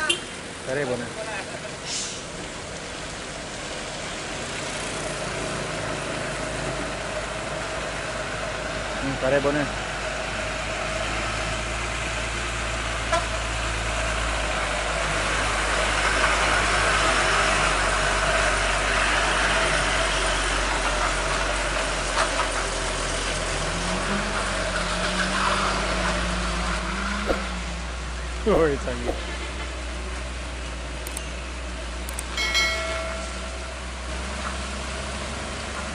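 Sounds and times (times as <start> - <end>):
truck diesel engine under load: 0.0 - 35.9.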